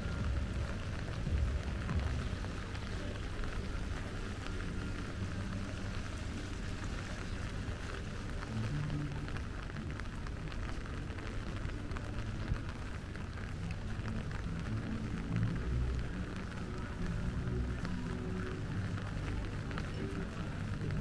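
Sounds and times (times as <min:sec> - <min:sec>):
rain drop ticks: 0:00.0 - 0:21.0
steady rain falling: 0:00.0 - 0:21.0.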